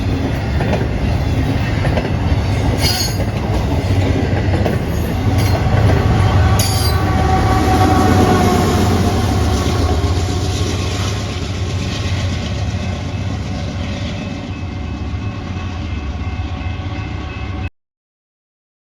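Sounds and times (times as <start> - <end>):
train wheels rumbling on rail: 0.0 - 17.6.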